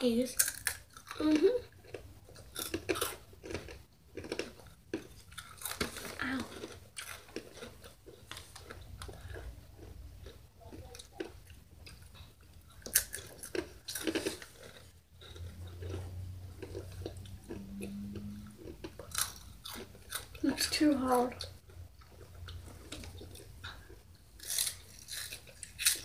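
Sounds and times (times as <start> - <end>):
chips being crunched and chewed: 0.3 - 26.0.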